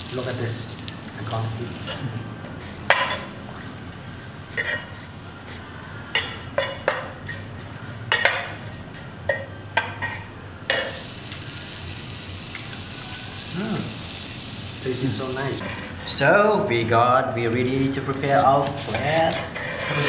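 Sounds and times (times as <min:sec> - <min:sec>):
frying sizzle: 0:00.0 - 0:16.7.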